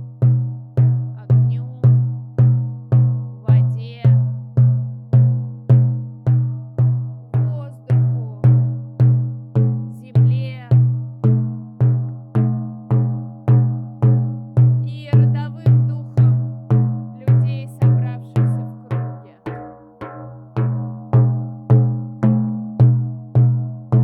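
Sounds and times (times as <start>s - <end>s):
frame drum booming strokes: 0.0s - 24.0s.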